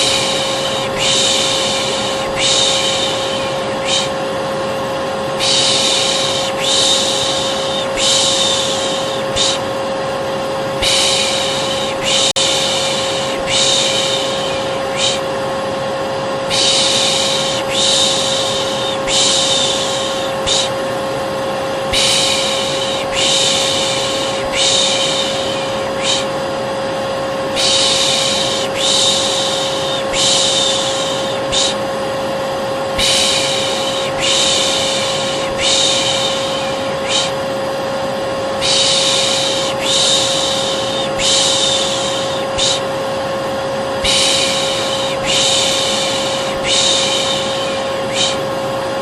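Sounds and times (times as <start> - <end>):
person shushing: 0.0 - 4.3, 5.4 - 9.8, 10.8 - 15.4, 16.4 - 20.8, 21.9 - 26.5, 27.4 - 31.9, 32.9 - 37.6, 38.5 - 42.9, 44.0 - 48.6
hair dryer humming: 0.0 - 49.0.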